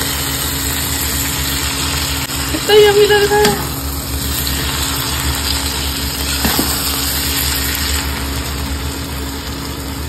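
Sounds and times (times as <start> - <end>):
cooktop low hum: 0.0 - 10.0
food sizzling in a pan: 0.0 - 10.0.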